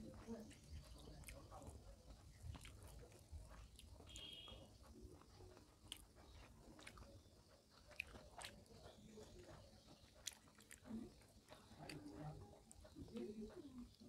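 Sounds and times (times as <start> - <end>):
person chewing with mouth clicks: 0.5 - 14.0.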